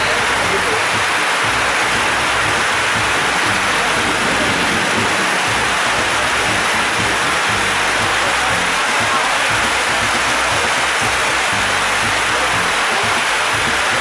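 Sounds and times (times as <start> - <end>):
heavy rain on paving: 0.0 - 14.0.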